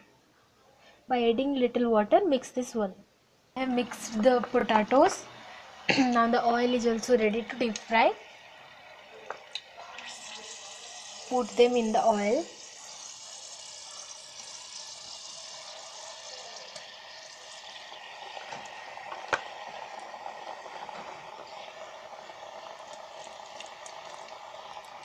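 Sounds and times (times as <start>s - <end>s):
food deep-frying in oil: 3.6s - 25.0s.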